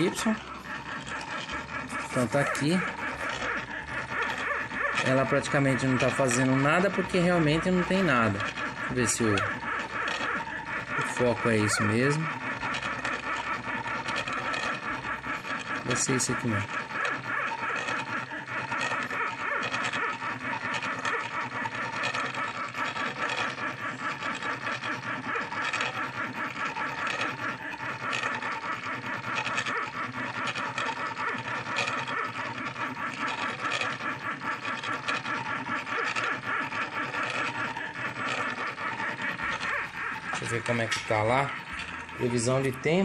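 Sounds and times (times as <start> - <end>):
stepper motors buzzing whine: 0.0 - 43.0.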